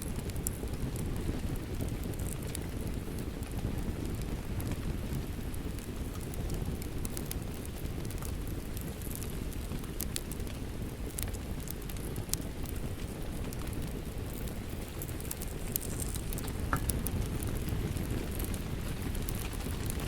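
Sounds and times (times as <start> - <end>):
rain: 0.0 - 20.0
wood fire crackling: 0.0 - 20.0.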